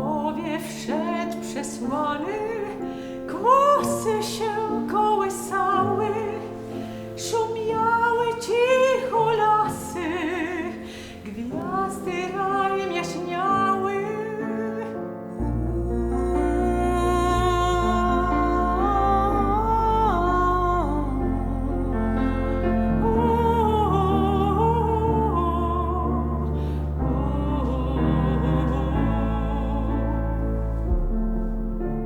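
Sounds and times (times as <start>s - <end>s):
person singing slow melody: 0.0s - 31.6s.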